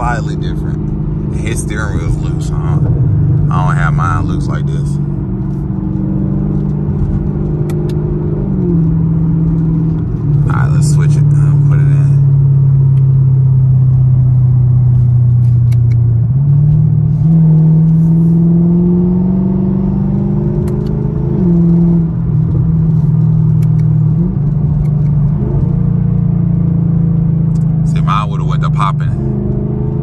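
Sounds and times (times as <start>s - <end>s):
loud car exhaust: 0.0s - 30.0s.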